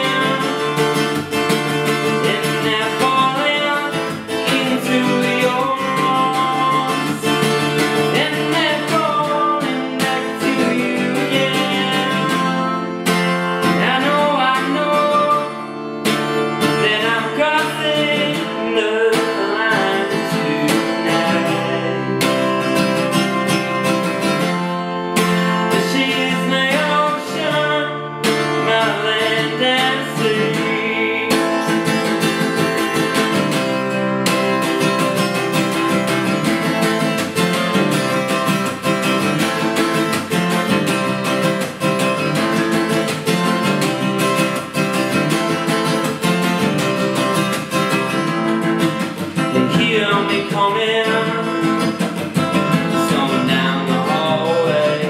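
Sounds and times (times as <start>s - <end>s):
man singing: 0.0s - 24.4s, 25.2s - 55.0s
acoustic guitar strumming: 0.0s - 55.0s.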